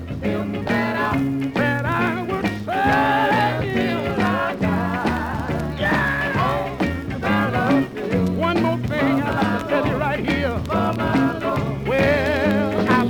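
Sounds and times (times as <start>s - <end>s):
gospel soul song on record: 0.0s - 13.0s.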